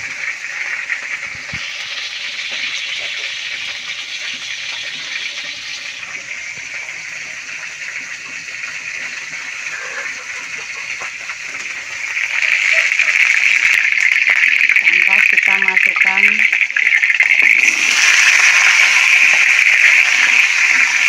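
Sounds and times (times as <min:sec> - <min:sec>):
oil sizzling in a wok: 0:00.0 - 0:21.0.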